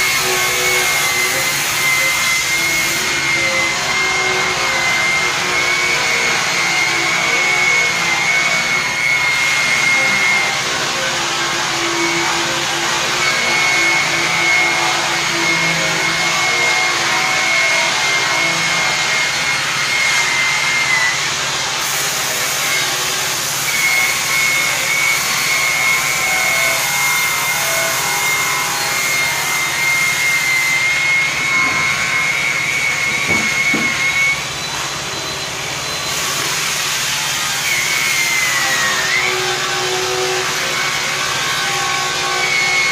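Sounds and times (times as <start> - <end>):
electric polisher whining: 0.0 - 42.9.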